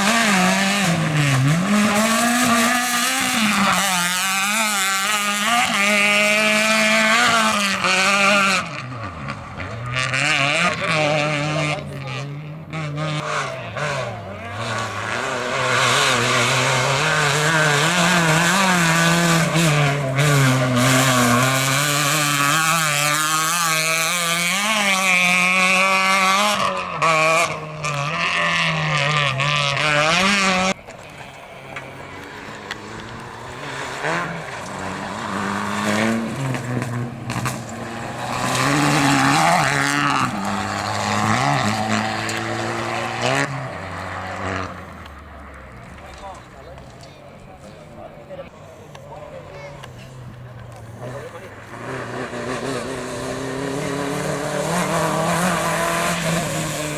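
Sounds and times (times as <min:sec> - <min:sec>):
car revving: 0:00.0 - 0:56.9
rally car engine revving: 0:00.0 - 0:56.9
tyres on gravel: 0:00.0 - 0:56.9.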